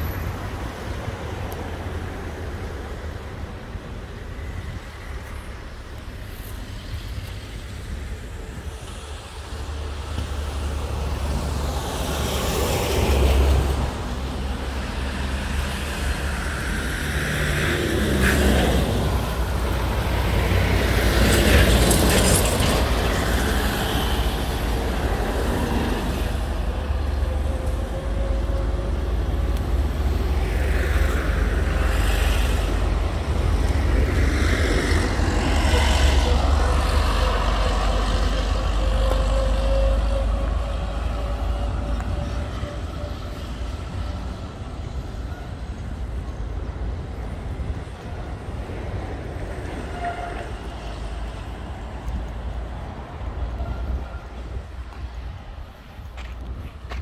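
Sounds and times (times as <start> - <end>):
heavy vehicle engines: 0.0 - 57.0
road traffic: 0.0 - 57.0.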